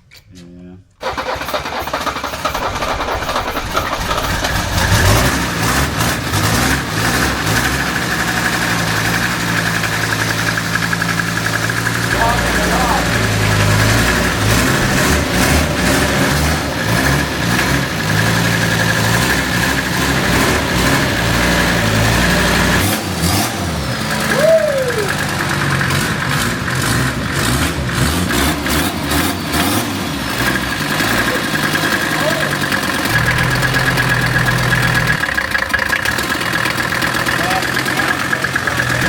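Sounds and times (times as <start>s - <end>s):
diesel engine cranking: 1.0s - 39.0s.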